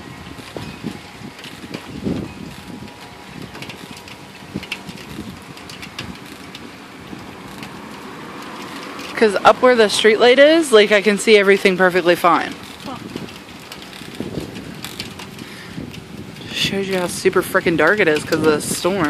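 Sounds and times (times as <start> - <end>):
gusty storm wind: 0.0 - 19.0.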